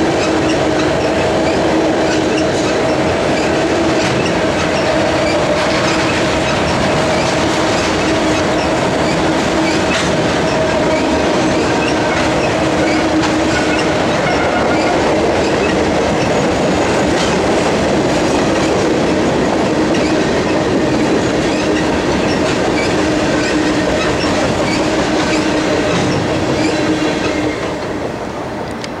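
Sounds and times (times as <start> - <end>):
train wheels clickety-clack: 0.0 - 29.0.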